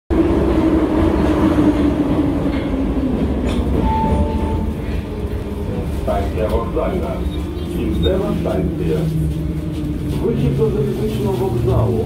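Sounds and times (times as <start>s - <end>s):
train deep rumble: 0.1s - 12.0s.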